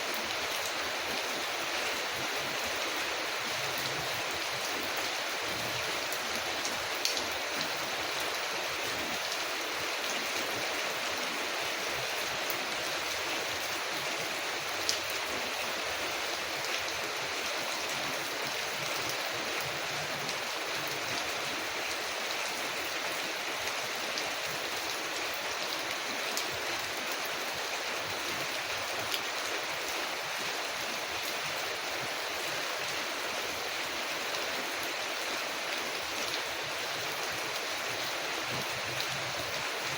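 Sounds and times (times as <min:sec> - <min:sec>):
rain on a window: 0:00.1 - 0:39.9.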